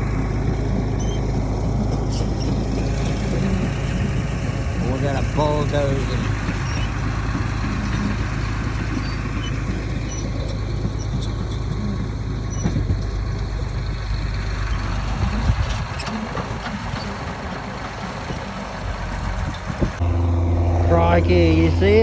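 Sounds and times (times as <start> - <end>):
bulldozer engine running: 0.0 - 22.0.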